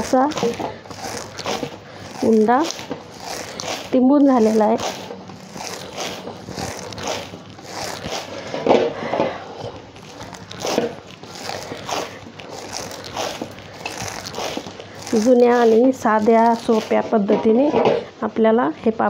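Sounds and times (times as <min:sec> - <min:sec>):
hands kneading dough: 0:00.0 - 0:18.0.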